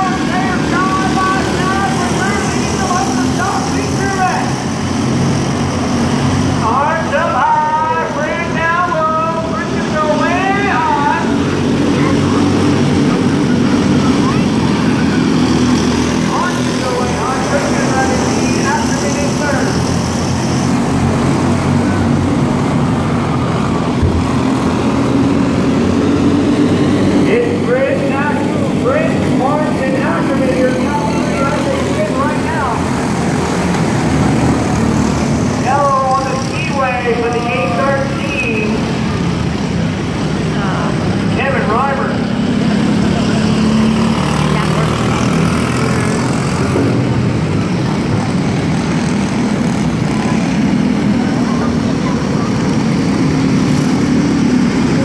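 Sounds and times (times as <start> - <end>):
small race car engines droning: 0.0 - 55.0.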